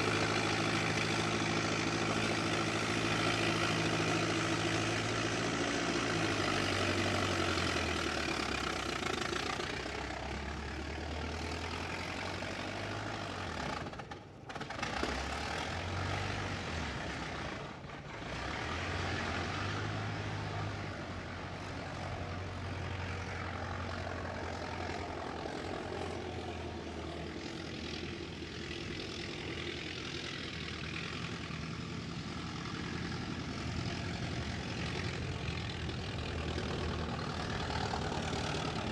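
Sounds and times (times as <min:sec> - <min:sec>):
car engine running: 0:00.0 - 0:14.5, 0:19.9 - 0:38.9.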